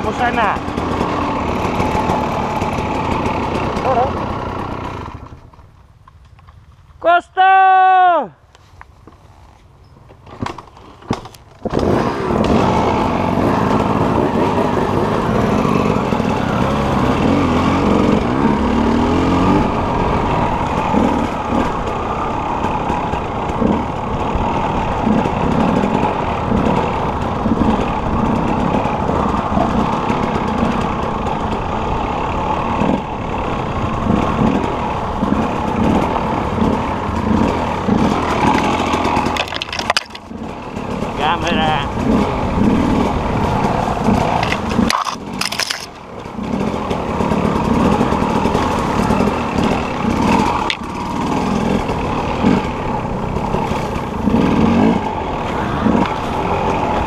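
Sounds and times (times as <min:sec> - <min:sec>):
dirt bike engine revving: 0:00.0 - 0:05.5, 0:11.6 - 0:57.0.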